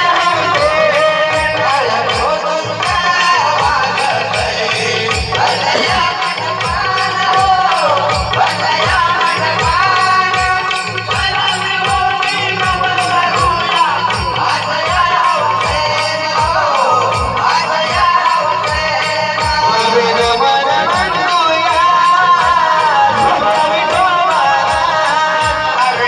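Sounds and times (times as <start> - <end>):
barrel drum beat: 0.0 - 26.0
men singing: 0.0 - 26.0.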